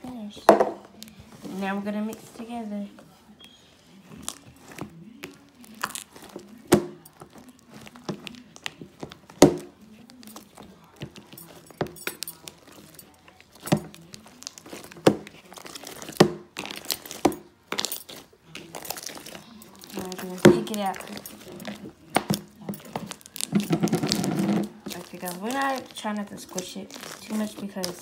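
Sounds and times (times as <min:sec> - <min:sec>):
hands mixing slime: 0:00.0 - 0:28.0
foam crinkling and snapping: 0:03.9 - 0:28.0.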